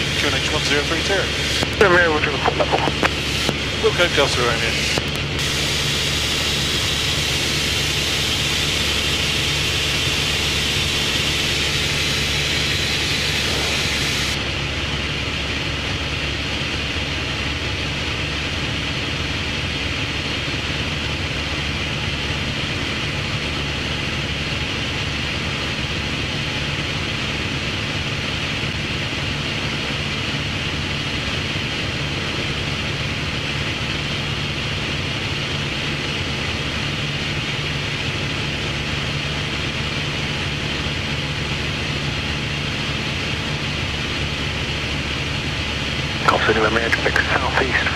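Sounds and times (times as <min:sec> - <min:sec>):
light aircraft engine drone: 0:00.0 - 0:47.9.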